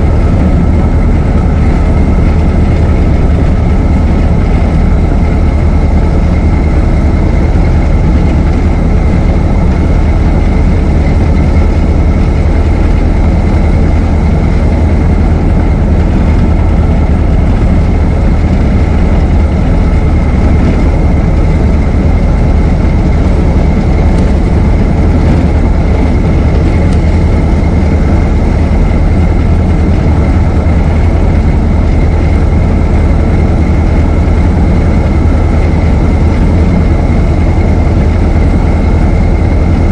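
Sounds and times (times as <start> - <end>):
car engine low rumble: 0.0 - 39.9
faint steady whine: 0.0 - 39.9.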